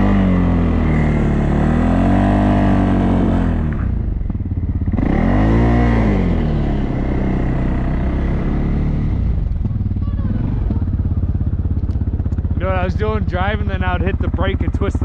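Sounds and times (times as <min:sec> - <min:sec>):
engine revving and idling: 0:00.0 - 0:15.0.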